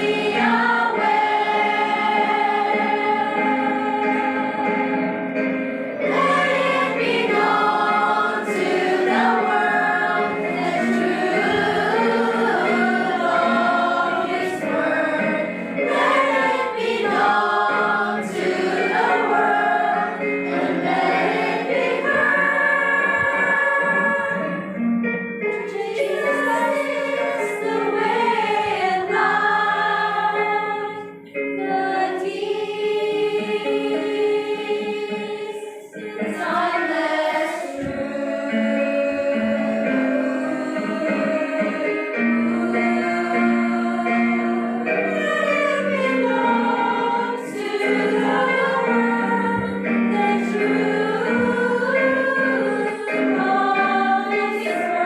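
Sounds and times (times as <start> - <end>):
choir singing a hymn: 0.0 - 24.8, 25.4 - 55.0.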